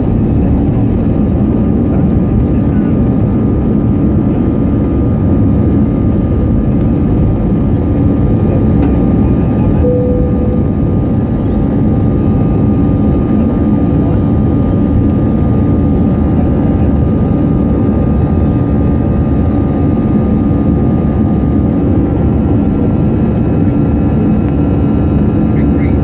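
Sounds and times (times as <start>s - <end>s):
jet engines roaring in cabin: 0.0s - 26.0s.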